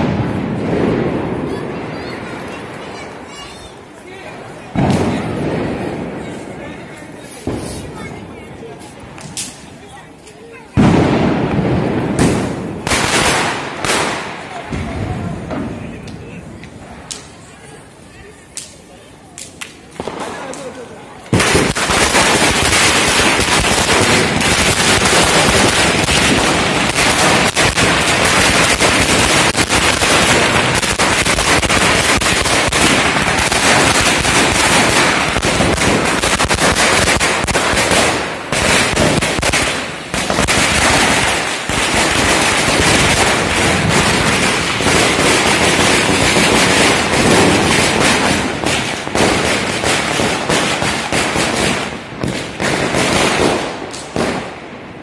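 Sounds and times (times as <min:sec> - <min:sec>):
firecrackers cracking and banging: 0:00.0 - 0:55.0.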